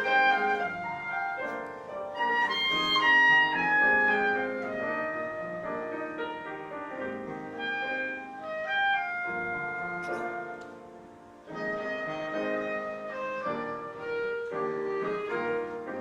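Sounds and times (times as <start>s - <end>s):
piano accompaniment: 0.0s - 16.0s
wind instrument melody: 0.0s - 16.0s.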